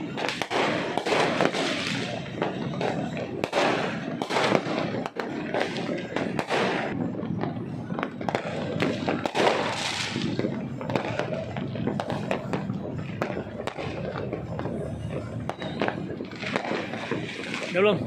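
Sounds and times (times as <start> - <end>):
fireworks pops and crackles: 0.0 - 18.0
loud firework bangs: 0.0 - 18.0.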